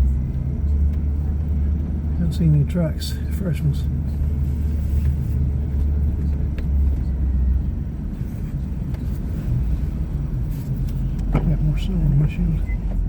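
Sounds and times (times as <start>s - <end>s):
vehicle engine low drone: 0.0s - 13.0s.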